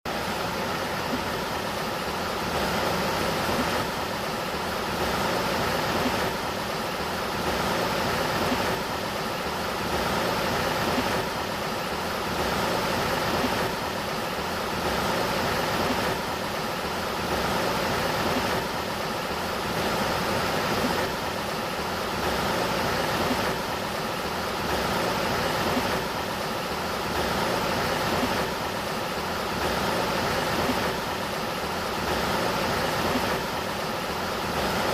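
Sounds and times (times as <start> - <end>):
flowing river water: 0.1 - 34.9.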